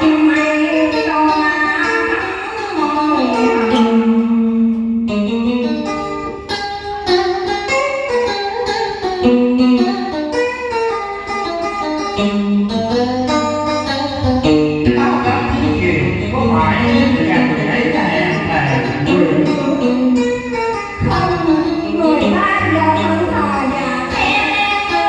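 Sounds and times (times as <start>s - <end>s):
plucked guitar melody: 0.0s - 25.0s.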